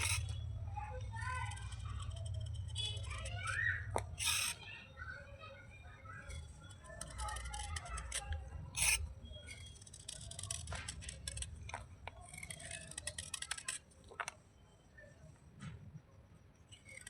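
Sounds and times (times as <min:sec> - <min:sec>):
crackling and scraping: 0:00.0 - 0:04.6, 0:06.2 - 0:14.9, 0:16.6 - 0:17.0.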